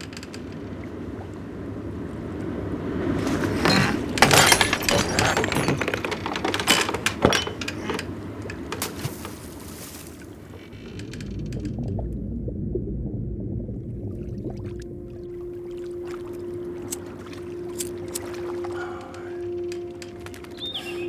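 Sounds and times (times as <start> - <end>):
sea and wind: 0.0 - 21.0.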